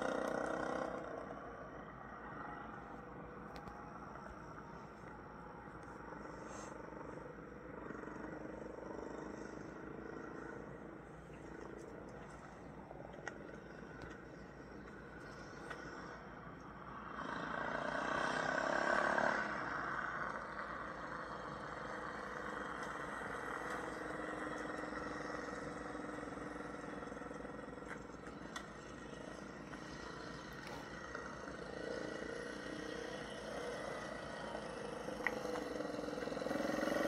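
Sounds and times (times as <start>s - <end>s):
dirt bike engine running: 0.0s - 16.1s, 16.8s - 37.0s.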